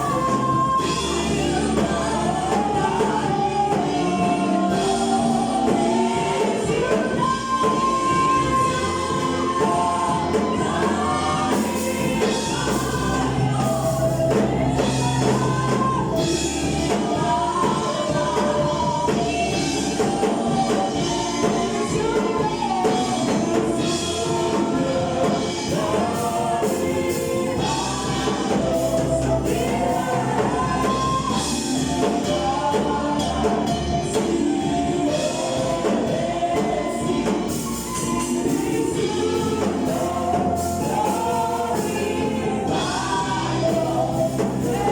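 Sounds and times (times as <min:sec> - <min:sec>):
band accompaniment: 0:00.0 - 0:44.9
bass line: 0:00.0 - 0:44.9
gospel choir singing: 0:00.0 - 0:44.9.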